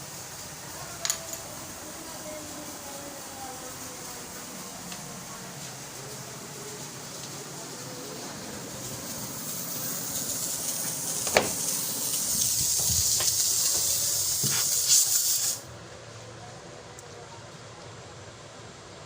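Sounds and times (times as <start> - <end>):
pressurised gas hissing: 0.0 - 15.8.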